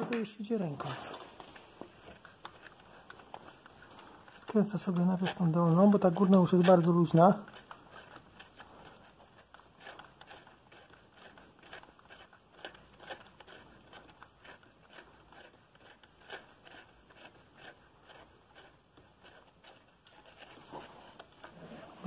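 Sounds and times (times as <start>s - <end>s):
faint clicks and scrapes of hands: 0.0s - 22.0s.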